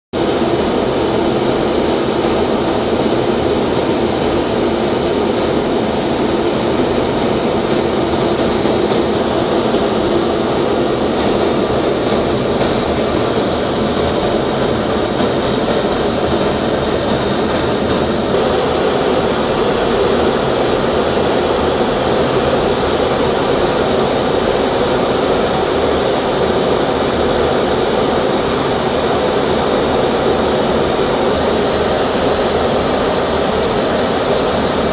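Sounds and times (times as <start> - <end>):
jet engine drone: 0.2 - 34.9.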